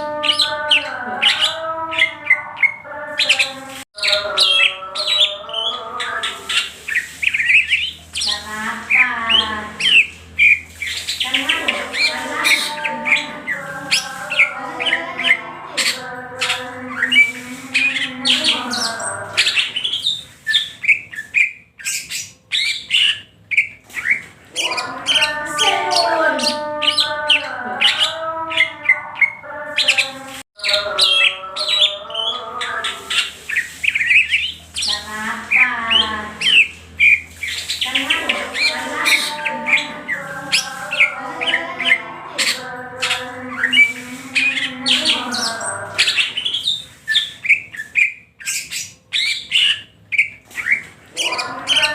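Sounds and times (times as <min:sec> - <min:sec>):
bird singing fast chattering song: 0:00.0 - 0:51.9.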